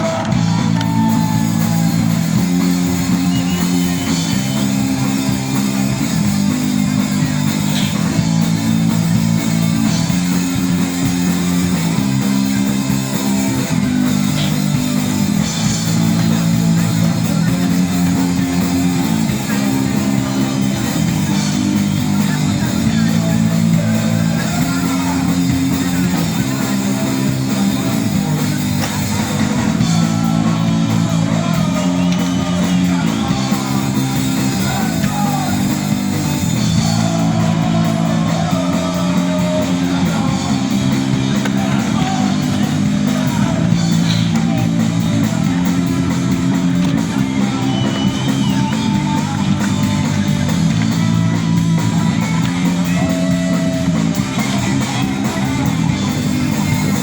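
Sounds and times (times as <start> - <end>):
punk rock music: 0.0 - 57.0.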